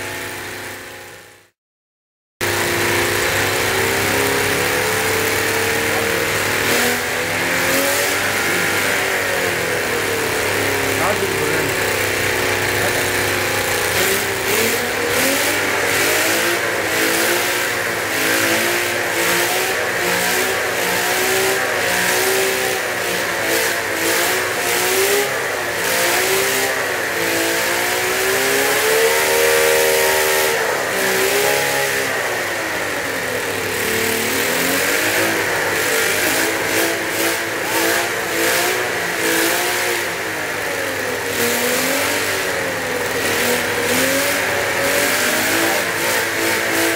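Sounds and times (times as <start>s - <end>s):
model engine revving: 0.0s - 1.5s, 2.4s - 46.9s.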